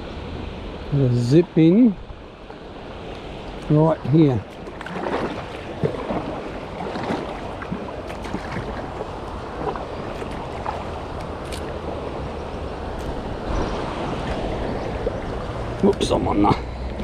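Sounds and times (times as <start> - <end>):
rushing river water: 0.0 - 17.0
paddle splashes: 2.4 - 17.0.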